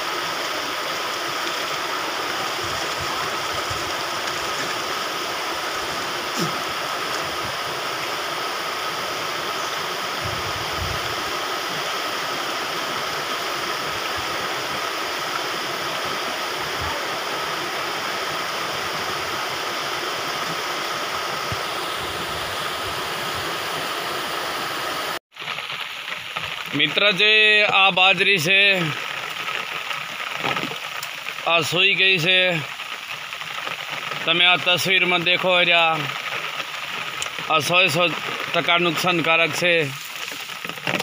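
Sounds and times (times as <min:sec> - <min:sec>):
floodwater rushing: 0:00.0 - 0:41.0.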